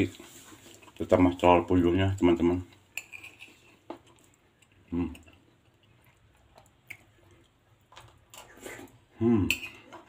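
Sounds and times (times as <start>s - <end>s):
soft chewing: 0.0s - 10.0s.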